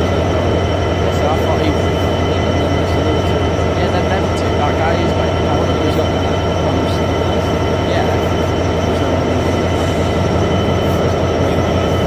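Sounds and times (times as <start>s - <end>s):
diesel locomotive engine idling: 0.0s - 12.0s
faint high whines: 0.0s - 12.0s.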